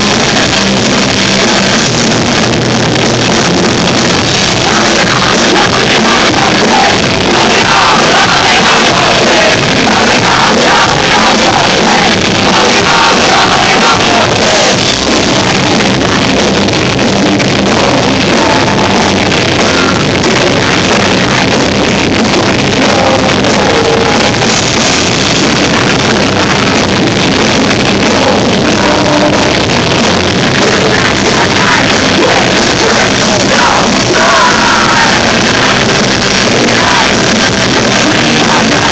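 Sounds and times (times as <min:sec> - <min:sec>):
drums: 0:00.0 - 0:38.9
electric guitars: 0:00.0 - 0:38.9
person singing: 0:03.4 - 0:38.9.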